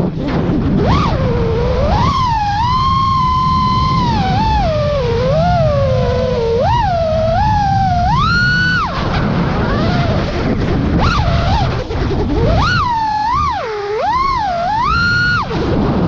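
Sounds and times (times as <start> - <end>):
quadcopter motors whining: 0.0 - 15.8
rushing air noise: 0.0 - 16.0.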